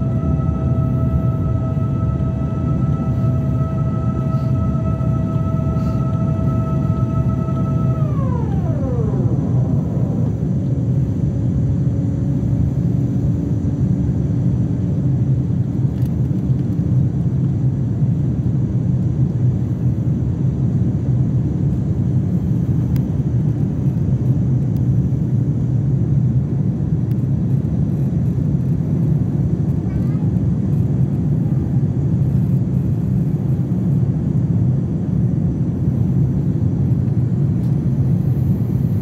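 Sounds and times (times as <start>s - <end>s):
faint steady hum: 0.0s - 39.0s
jet engine roar in cabin: 0.0s - 39.0s.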